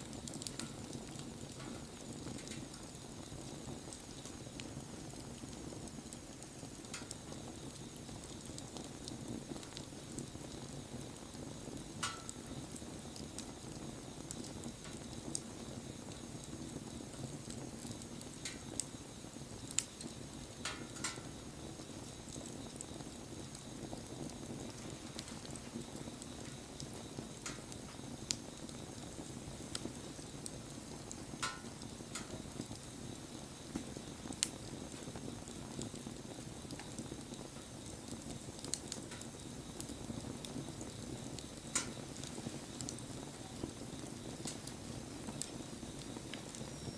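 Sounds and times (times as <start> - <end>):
burning wood crackling: 0.0 - 46.9
fire flames rushing: 0.0 - 46.9.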